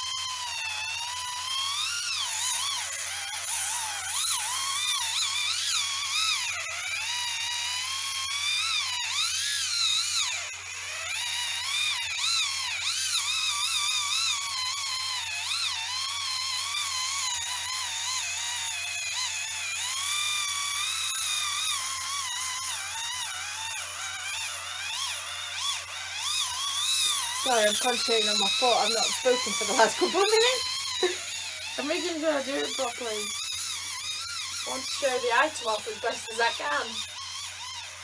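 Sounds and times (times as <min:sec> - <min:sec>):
electric callus remover whining: 0:00.0 - 0:38.0.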